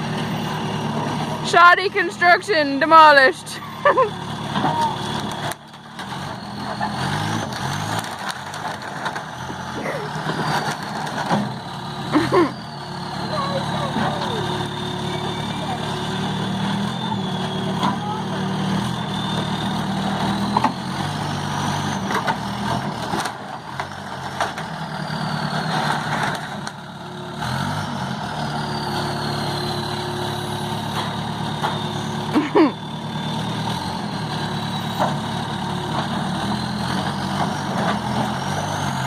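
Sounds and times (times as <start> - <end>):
backhoe engine running: 0.0 - 39.0.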